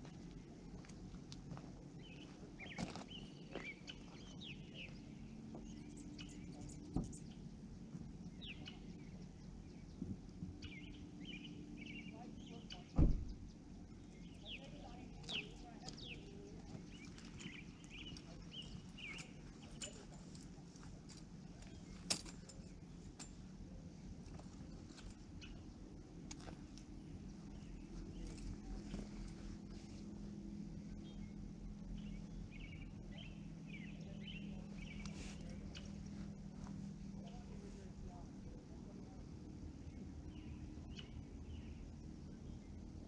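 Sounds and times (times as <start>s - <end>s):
birds chirping: 0.0s - 43.0s
low steady hum: 0.0s - 43.0s
steady low rumble: 0.0s - 43.0s.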